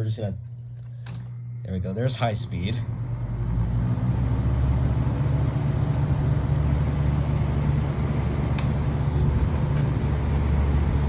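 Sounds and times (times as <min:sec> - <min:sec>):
box fan running: 0:00.0 - 0:11.0.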